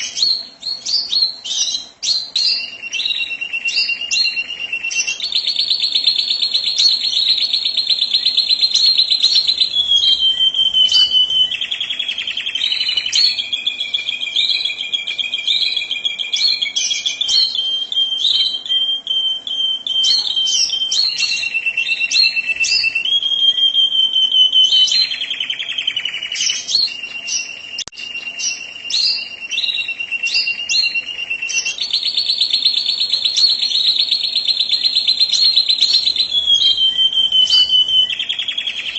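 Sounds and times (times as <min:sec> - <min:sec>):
canary singing rolling trills: 0:00.0 - 0:38.9
high canary chirps: 0:00.0 - 0:38.9.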